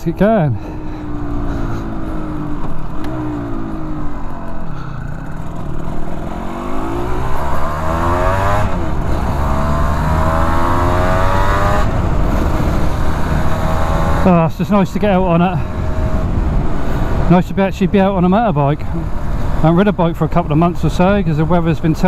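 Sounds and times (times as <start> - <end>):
motorcycle accelerating: 0.0 - 22.0.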